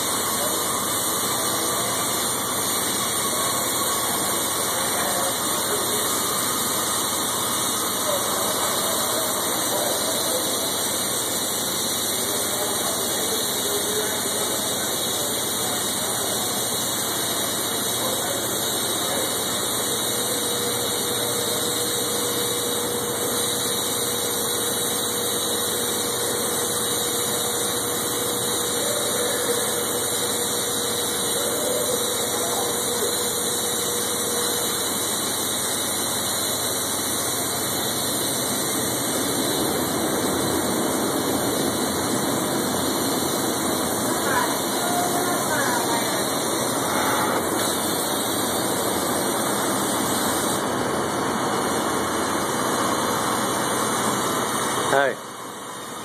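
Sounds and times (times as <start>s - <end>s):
engine-driven welder running: 0.0s - 56.0s
welding arc hissing and crackling: 0.0s - 56.0s.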